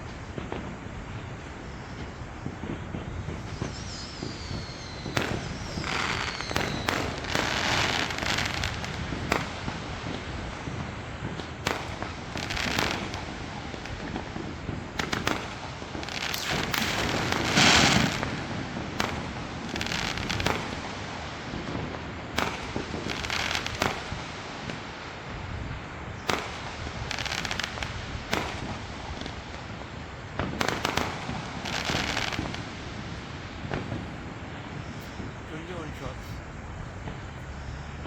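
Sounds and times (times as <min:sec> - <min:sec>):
fireworks bangs: 0:00.0 - 0:38.0
fireworks crackling: 0:00.0 - 0:38.0.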